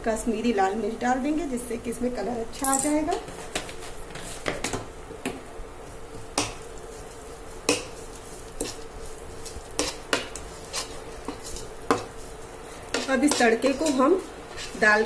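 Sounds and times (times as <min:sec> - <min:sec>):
faint steady hum: 0:00.0 - 0:15.0
spoon stirring and scraping pan: 0:02.9 - 0:15.0.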